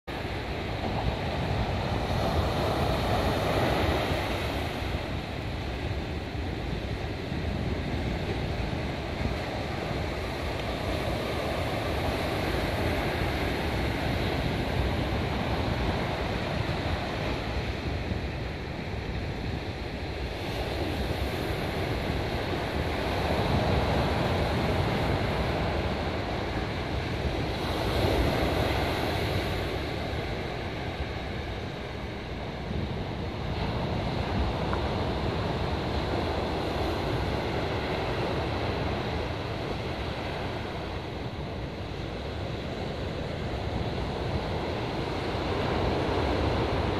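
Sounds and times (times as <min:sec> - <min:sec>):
surf breaking on a beach: 0:00.0 - 0:46.9.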